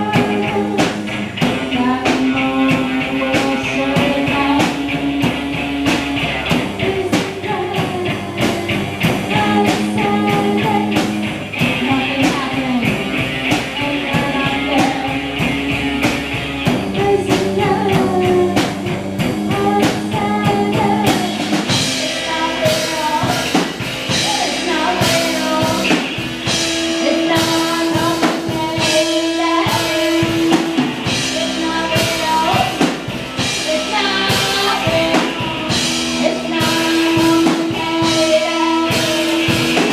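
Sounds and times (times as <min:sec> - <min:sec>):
drums: 0:00.0 - 0:39.9
guitar: 0:00.0 - 0:39.9.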